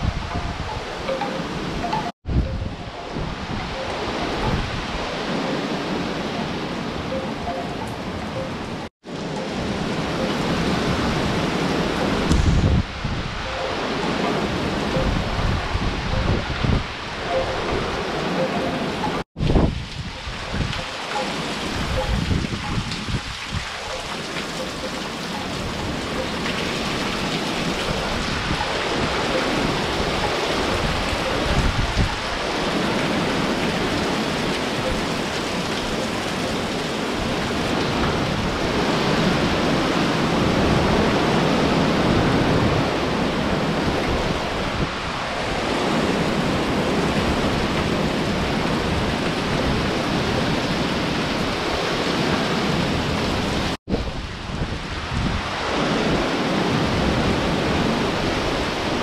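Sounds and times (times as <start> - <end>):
heavy rain: 0.0 - 59.0
wind gusts: 0.0 - 59.0.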